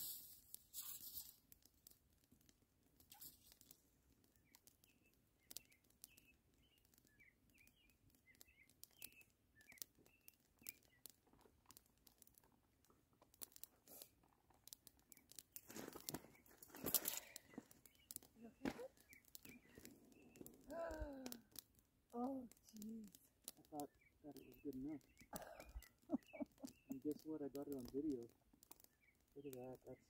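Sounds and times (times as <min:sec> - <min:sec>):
small bird chirping: 0:00.0 - 0:01.5, 0:03.0 - 0:11.3, 0:14.7 - 0:30.0
campfire crackling: 0:00.0 - 0:30.0.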